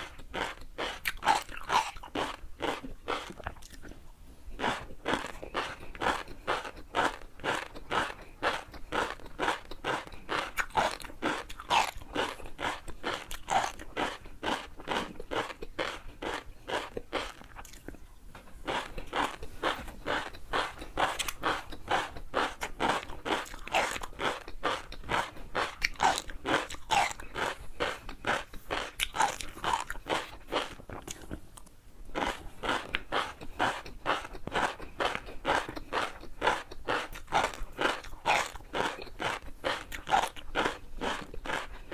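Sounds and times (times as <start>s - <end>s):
chewing crunchy food: 0.0s - 41.9s.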